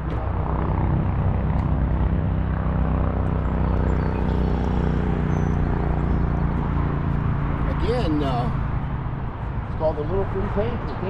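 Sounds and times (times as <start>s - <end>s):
motor engine droning: 0.0s - 11.0s.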